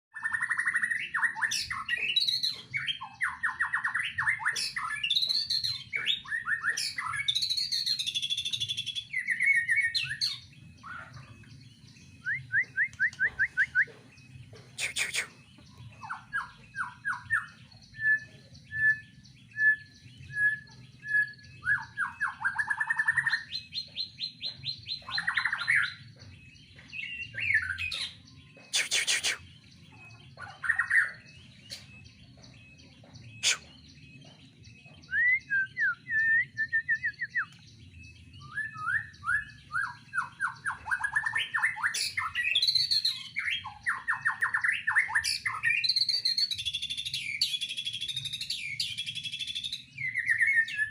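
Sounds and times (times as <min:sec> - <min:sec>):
bird singing: 0:00.1 - 0:50.9.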